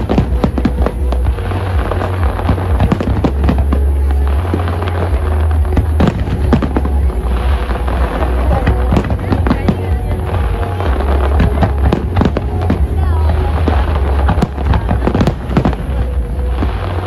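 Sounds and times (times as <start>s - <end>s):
deep rumble: 0.0s - 17.0s
fireworks bangs and crackles: 0.0s - 17.0s.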